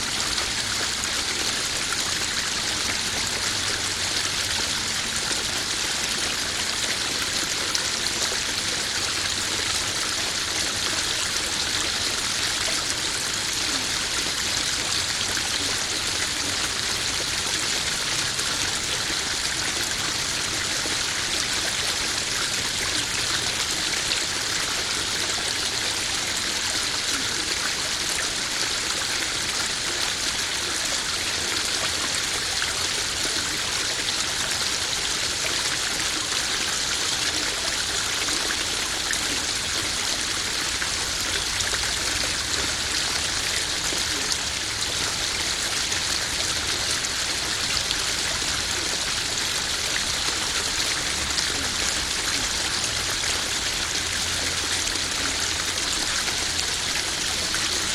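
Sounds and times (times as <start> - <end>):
waterfall splashing into pond: 0.0 - 57.9.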